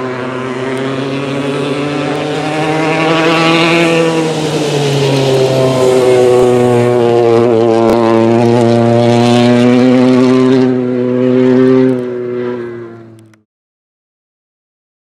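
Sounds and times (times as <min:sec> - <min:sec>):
rally car engine running: 0:00.0 - 0:13.4.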